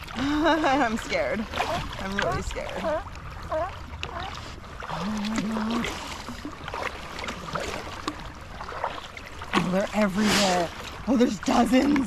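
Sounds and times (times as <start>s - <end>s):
low humming call: 0.0s - 9.9s
paddle strokes splashing: 0.0s - 12.0s.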